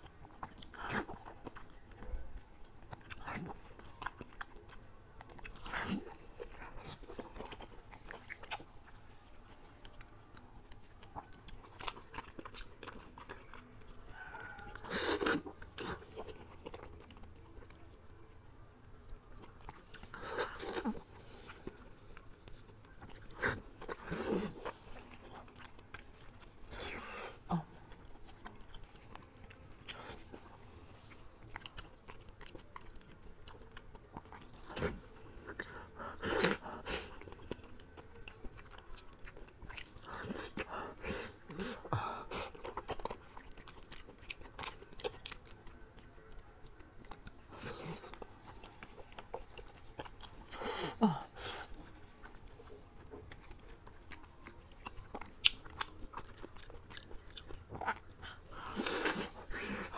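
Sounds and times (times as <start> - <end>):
close chewing and biting: 0.0 - 59.9.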